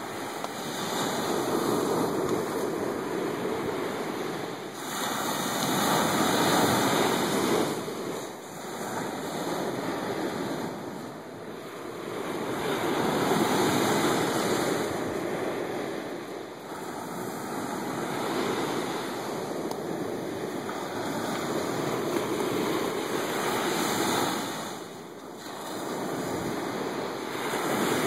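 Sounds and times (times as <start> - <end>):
small waves breaking on beach: 0.0 - 28.0.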